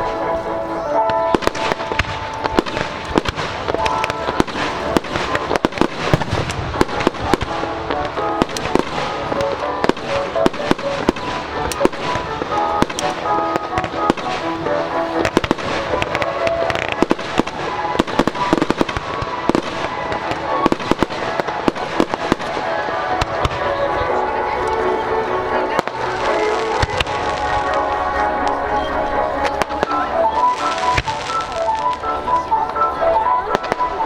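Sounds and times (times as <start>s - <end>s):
fireworks bursting and crackling: 0.0s - 34.0s
music playing: 0.0s - 34.0s.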